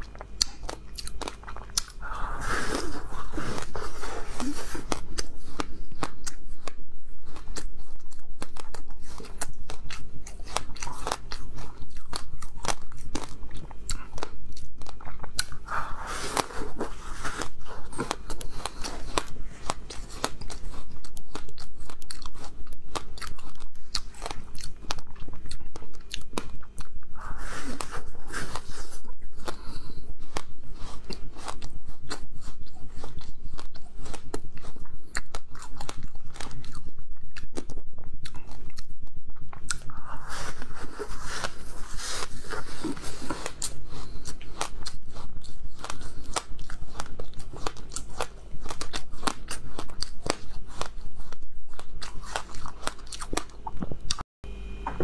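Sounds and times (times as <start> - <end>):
chewing frozen fruit ice: 0.0 - 54.2.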